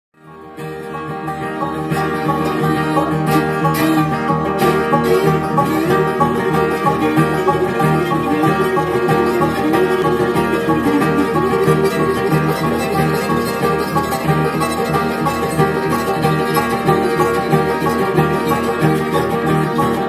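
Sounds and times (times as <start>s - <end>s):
bluegrass band playing: 0.2s - 20.0s.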